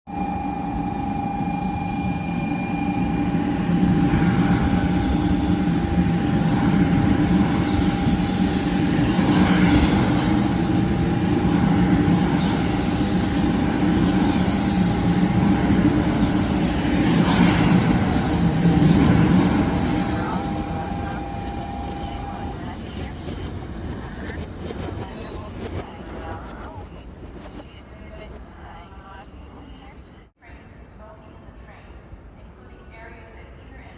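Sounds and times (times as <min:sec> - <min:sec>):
constant high whine: 0:00.1 - 0:33.3
train rumble and hiss: 0:01.7 - 0:33.9.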